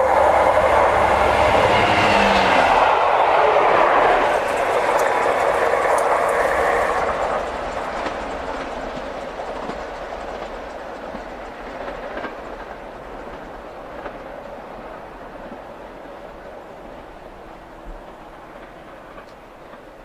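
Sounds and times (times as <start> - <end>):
train wheels clattering over rails: 0.0 - 20.0.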